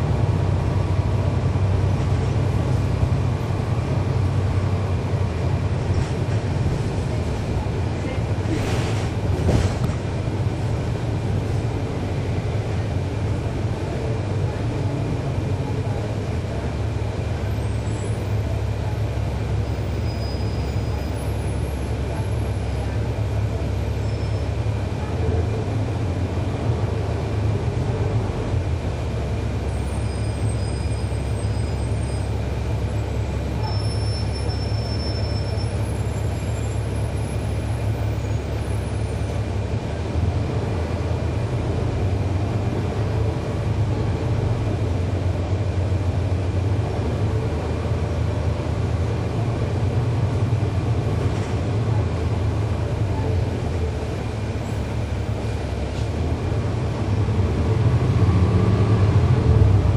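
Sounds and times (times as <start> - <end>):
bus diesel engine rumble: 0.0 - 59.9.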